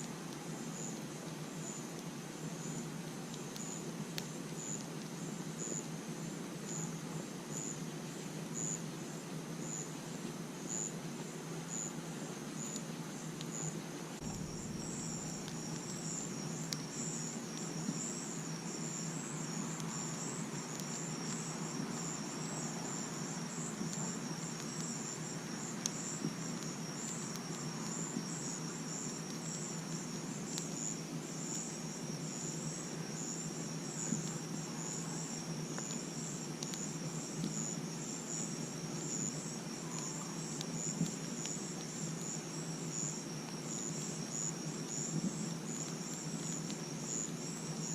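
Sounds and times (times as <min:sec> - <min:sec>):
campfire hiss and crackles: 0:00.0 - 0:47.9
crickets chirping: 0:00.0 - 0:47.9.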